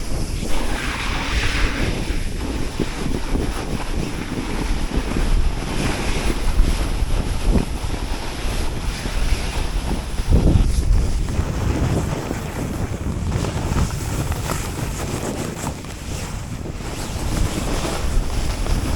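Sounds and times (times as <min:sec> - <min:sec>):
snowboard scraping on snow: 0:00.0 - 0:18.9
wind buffeting microphone: 0:00.0 - 0:18.9.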